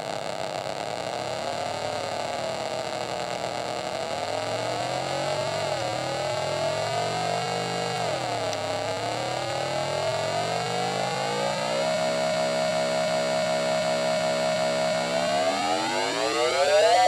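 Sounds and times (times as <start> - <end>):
grainy electronic drone: 0.0 - 17.0.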